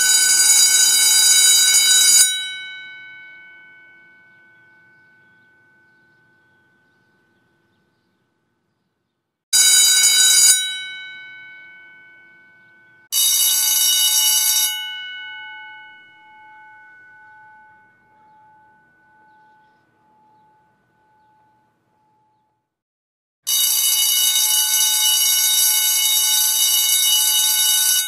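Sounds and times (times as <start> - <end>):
school bell ringing: 0.0 - 7.5, 9.6 - 22.4, 23.5 - 28.0.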